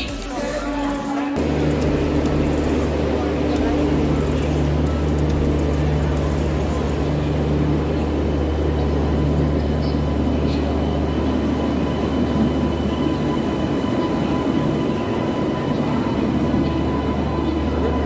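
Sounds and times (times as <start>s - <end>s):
train coaches rumbling past: 0.0s - 18.0s
locomotive low hum: 1.4s - 18.0s.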